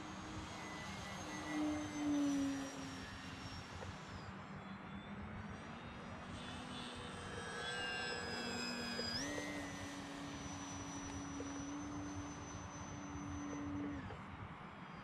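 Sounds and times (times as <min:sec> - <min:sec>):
model plane motor whining: 0:00.0 - 0:15.0.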